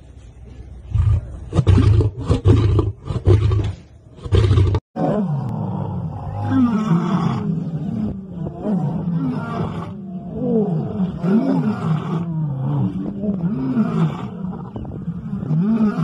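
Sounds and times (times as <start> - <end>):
lions roaring: 0.9 - 16.0.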